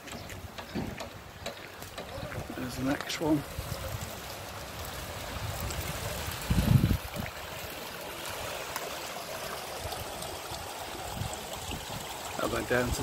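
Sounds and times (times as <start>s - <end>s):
water rushing and trickling: 0.0s - 13.0s.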